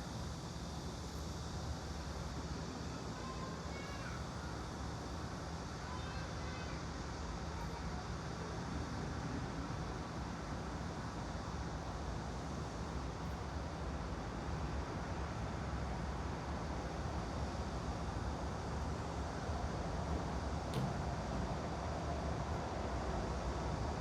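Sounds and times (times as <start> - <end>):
low constant hum: 0.0 - 24.0.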